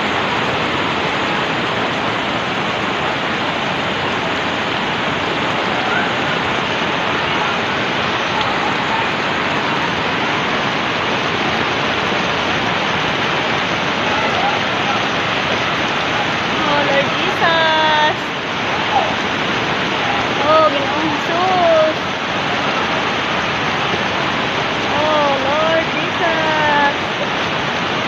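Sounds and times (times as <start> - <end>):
floodwater rushing: 0.0 - 28.0
heavy rain: 0.0 - 28.0.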